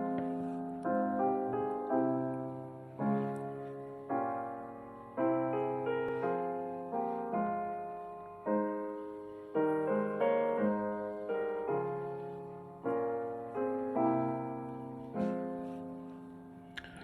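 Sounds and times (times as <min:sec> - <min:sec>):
soft solo piano chords: 0:00.0 - 0:17.0.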